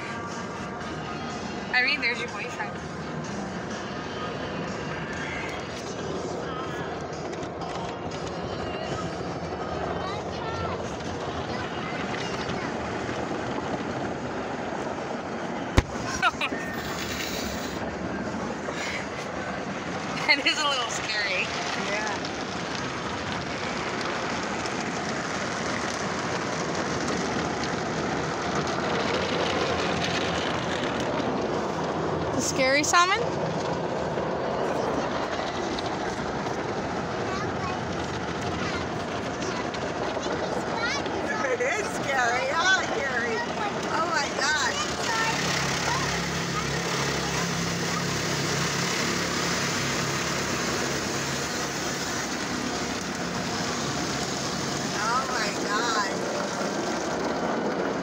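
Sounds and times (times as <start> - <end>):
water spraying on a car: 0.0 - 58.0.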